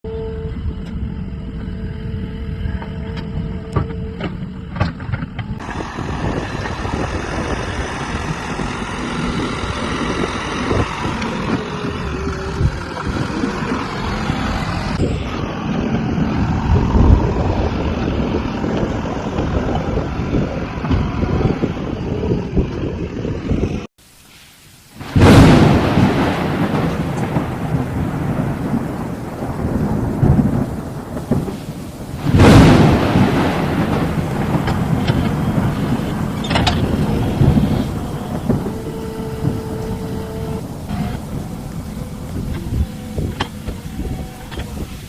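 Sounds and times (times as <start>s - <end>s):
wind noise on microphone: 0.0s - 23.9s, 24.9s - 45.0s
diesel engine under load: 0.1s - 23.9s, 25.2s - 45.0s.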